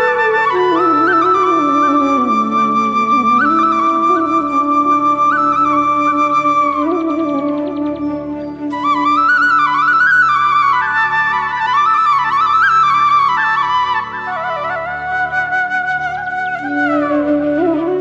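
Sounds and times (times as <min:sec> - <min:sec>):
flute melody: 0:00.0 - 0:18.0.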